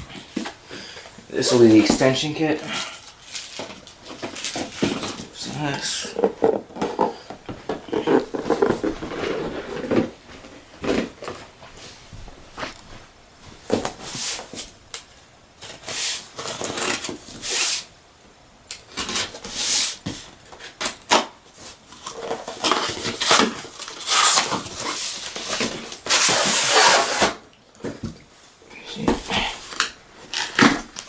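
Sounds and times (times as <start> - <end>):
cardboard and plastic rustling: 0.0 - 14.8, 18.8 - 31.0.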